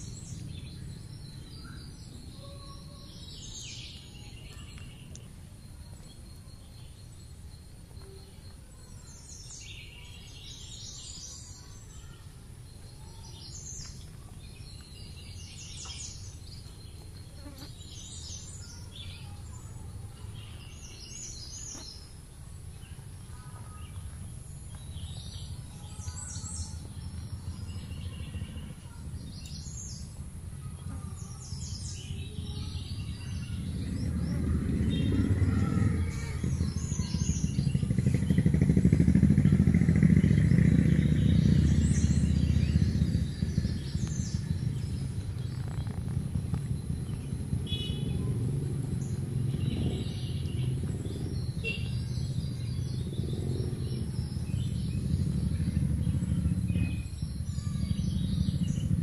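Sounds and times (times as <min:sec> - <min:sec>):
birds chirping: 0:00.0 - 0:59.0
low outdoor rumble: 0:00.0 - 0:59.0.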